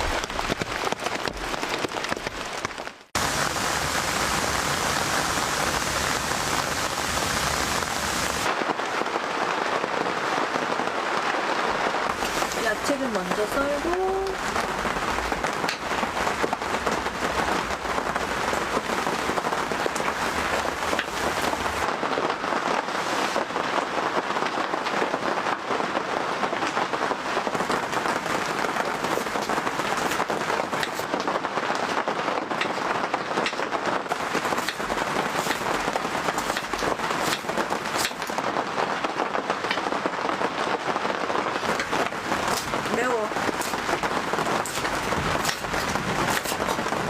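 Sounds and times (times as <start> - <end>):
heavy rain pattering: 0.0 - 47.0.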